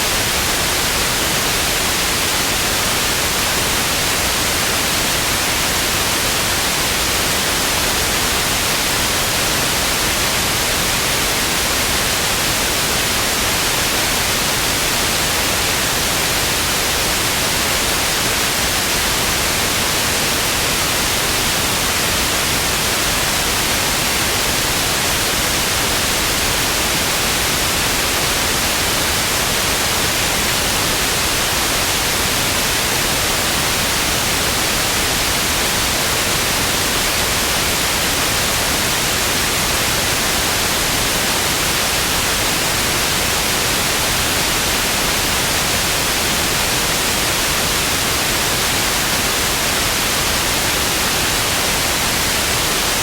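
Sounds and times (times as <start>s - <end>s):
television static hiss: 0.0s - 53.0s.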